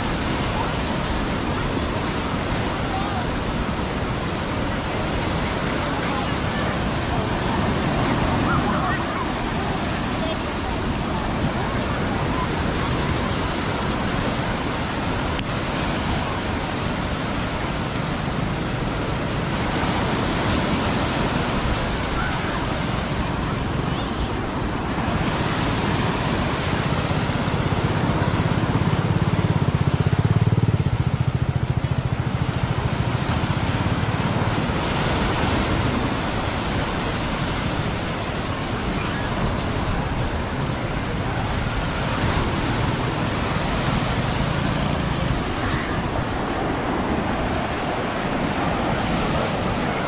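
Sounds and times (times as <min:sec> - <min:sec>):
surf washing on beach: 0:00.0 - 0:50.0
wind: 0:00.0 - 0:50.0.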